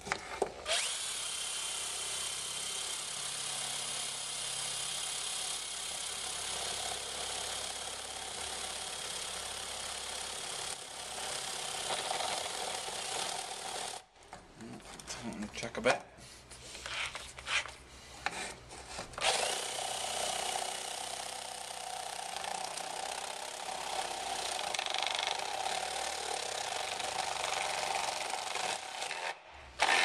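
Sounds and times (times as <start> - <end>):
cordless drill boring plastic: 0.6 - 14.0, 19.2 - 30.0.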